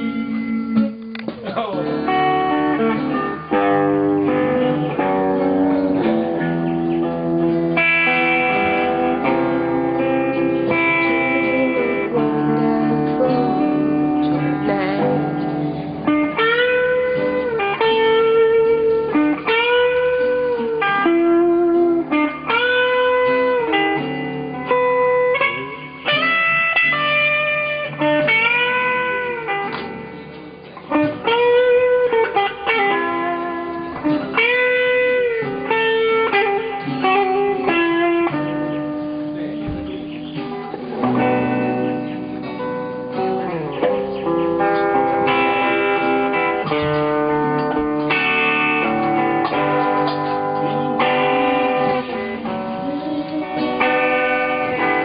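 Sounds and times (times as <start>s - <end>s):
bluesy guitar playing: 0.0s - 55.0s.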